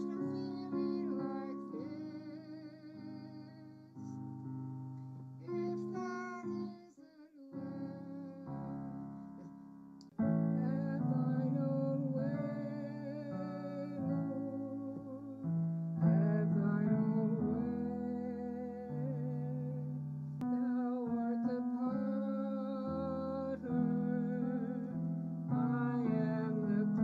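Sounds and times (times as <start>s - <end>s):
woman singing: 0.0s - 4.2s, 5.4s - 9.2s, 10.5s - 25.0s, 25.6s - 27.0s
hymn played on piano: 0.0s - 27.0s.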